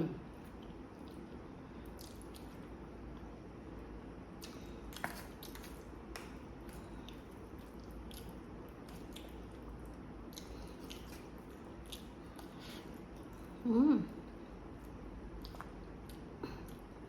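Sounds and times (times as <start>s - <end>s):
person chewing food: 0.4s - 3.3s, 4.3s - 13.6s, 14.2s - 17.0s.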